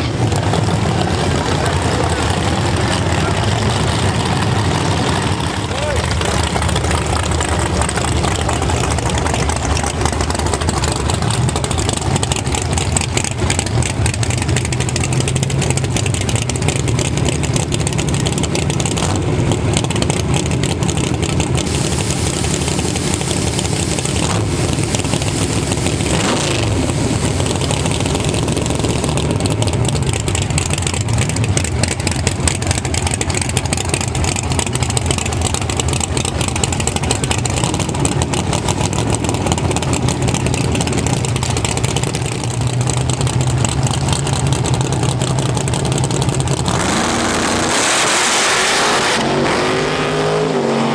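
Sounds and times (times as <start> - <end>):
drag-racing engine idling: 0.0 - 50.9.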